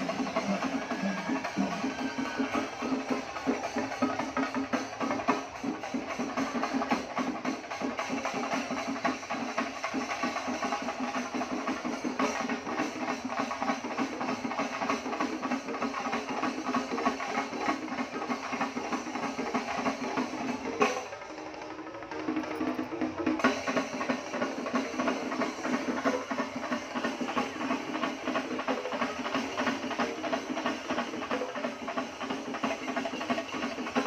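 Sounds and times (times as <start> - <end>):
percussion ensemble drumming: 0.0 - 34.0.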